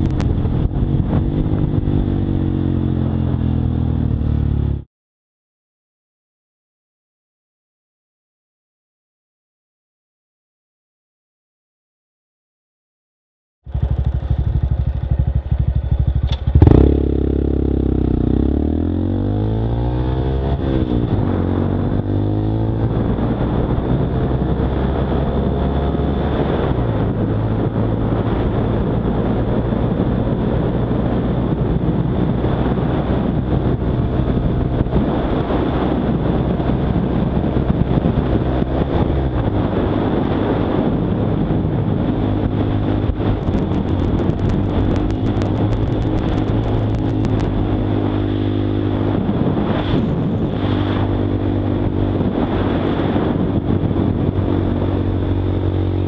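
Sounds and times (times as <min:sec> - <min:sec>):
motorcycle engine running: 0:00.0 - 0:04.8, 0:13.6 - 0:56.0.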